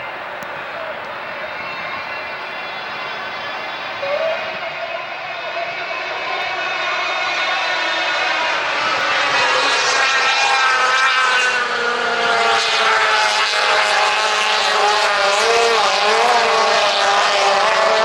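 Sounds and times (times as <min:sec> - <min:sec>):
outboard motors whining: 0:00.0 - 0:18.0.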